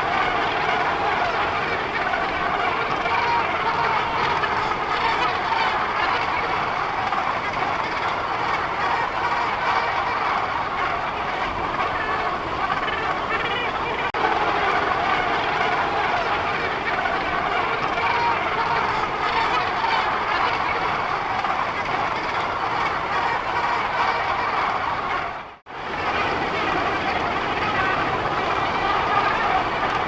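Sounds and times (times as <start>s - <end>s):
gannet colony calling: 0.0s - 30.0s.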